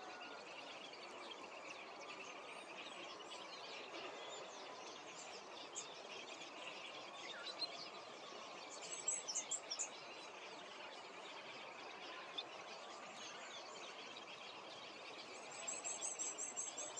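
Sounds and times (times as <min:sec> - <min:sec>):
small birds chirping: 0:00.0 - 0:16.9
steady outdoor hiss: 0:00.0 - 0:16.9.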